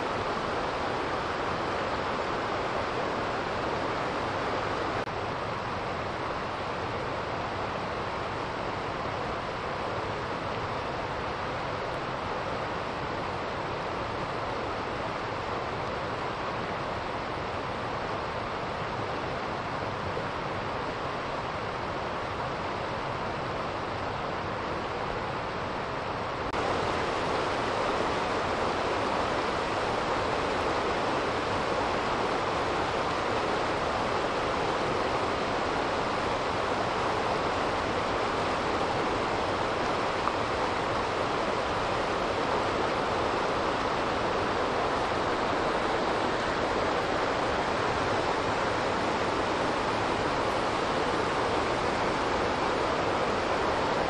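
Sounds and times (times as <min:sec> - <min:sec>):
water flowing: 0:00.0 - 0:54.0.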